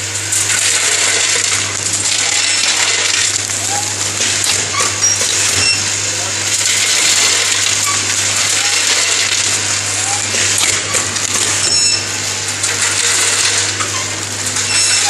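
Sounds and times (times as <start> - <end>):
low machine hum: 0.0 - 15.0
packaging machine clattering: 0.2 - 15.0.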